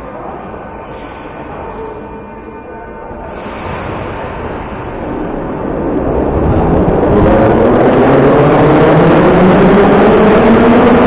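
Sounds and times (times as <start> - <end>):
metro train motors whining: 0.0 - 11.0.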